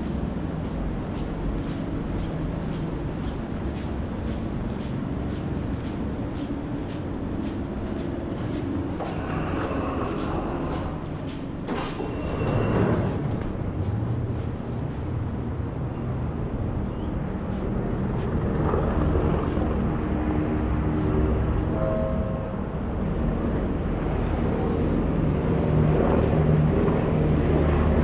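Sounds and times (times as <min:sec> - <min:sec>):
city traffic rumble: 0:00.0 - 0:28.0
trains: 0:00.0 - 0:28.0.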